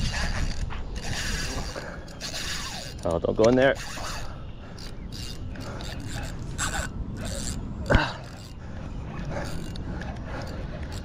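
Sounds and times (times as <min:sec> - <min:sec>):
fishing reel cranking and rattling: 0:00.0 - 0:08.6, 0:09.3 - 0:11.0.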